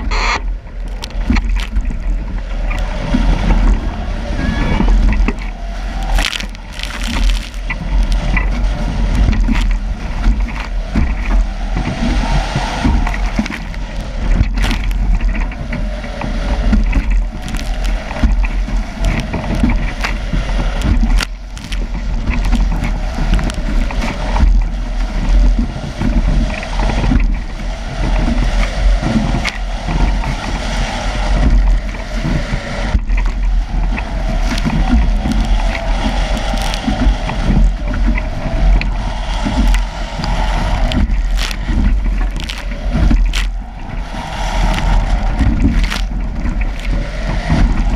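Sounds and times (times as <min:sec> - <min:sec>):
waves splashing: 0:00.0 - 0:47.9
wind buffeting microphone: 0:00.0 - 0:47.9.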